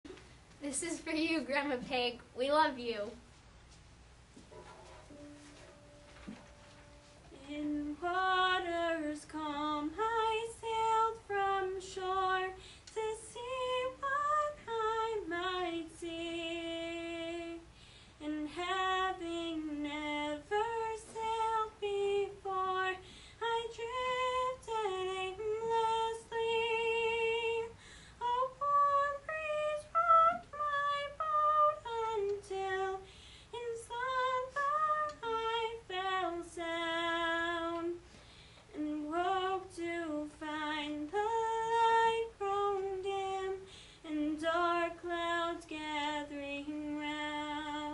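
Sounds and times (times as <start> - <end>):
girl singing slow melody: 5.0 - 47.9.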